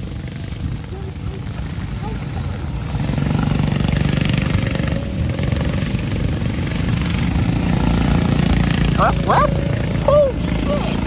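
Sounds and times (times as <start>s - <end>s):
go-kart engines passing: 0.0s - 11.0s.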